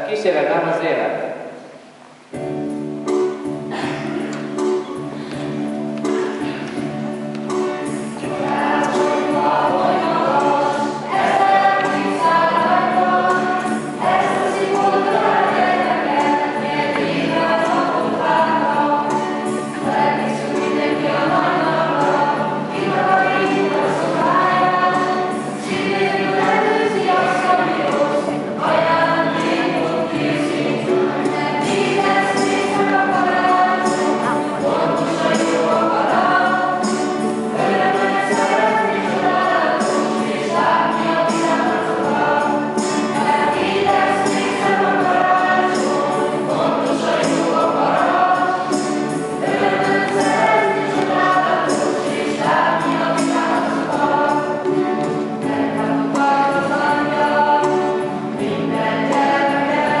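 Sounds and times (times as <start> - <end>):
choir singing: 7.5 - 60.0.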